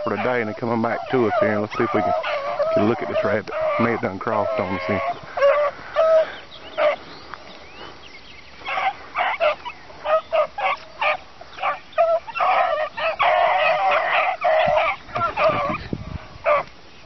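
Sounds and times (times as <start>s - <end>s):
beagles baying: 0.0s - 17.0s.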